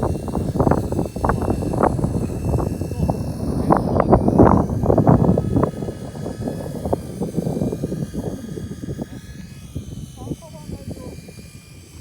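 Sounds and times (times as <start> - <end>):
toy helicopter motor whine: 0.0 - 12.0
wind buffeting microphone: 0.0 - 12.0.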